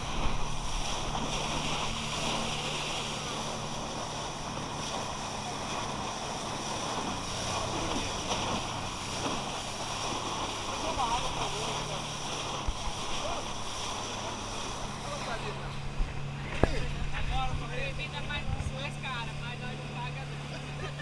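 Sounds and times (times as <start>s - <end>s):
motorboat engine running: 0.0s - 21.0s
water rushing past hull: 0.0s - 21.0s.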